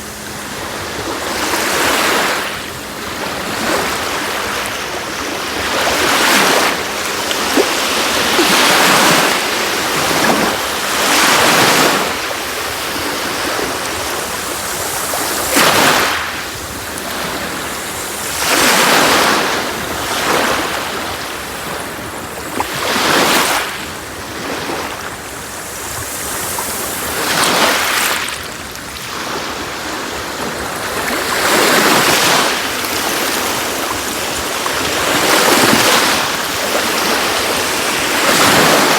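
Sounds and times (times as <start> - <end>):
sea waves washing onto beach: 0.0 - 38.9.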